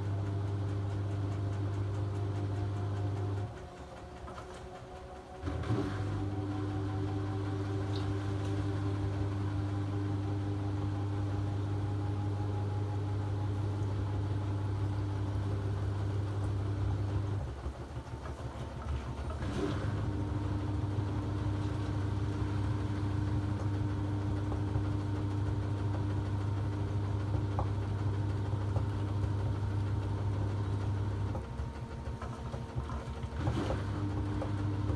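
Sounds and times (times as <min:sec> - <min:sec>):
low mechanical hum: 0:00.0 - 0:34.9.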